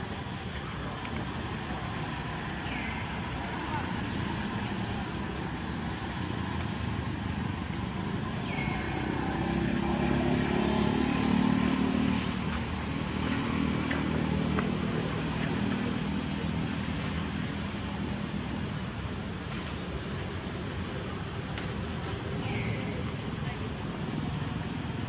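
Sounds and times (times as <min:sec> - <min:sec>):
steady outdoor hum: 0:00.0 - 0:25.0.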